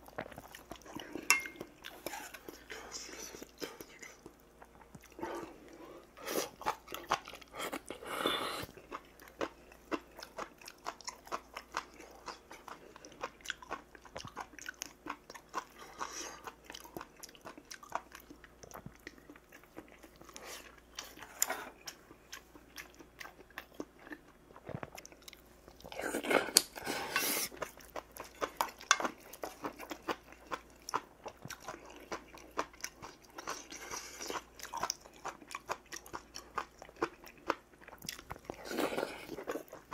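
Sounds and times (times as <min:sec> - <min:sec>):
person chewing with mouth clicks: 0:00.0 - 0:39.9.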